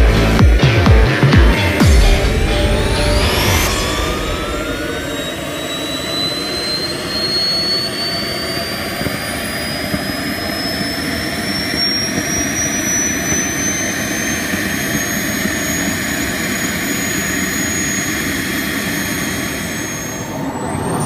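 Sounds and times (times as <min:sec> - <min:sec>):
model jet turbine whine: 0:01.6 - 0:21.0.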